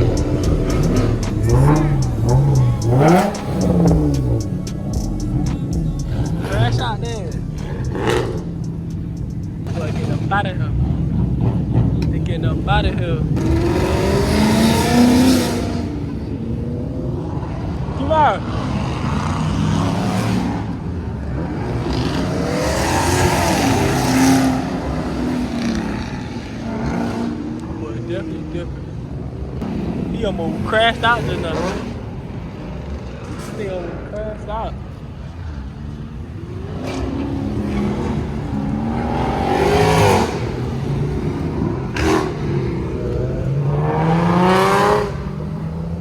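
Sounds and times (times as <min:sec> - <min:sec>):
car engine accelerating hard: 0:00.0 - 0:46.0.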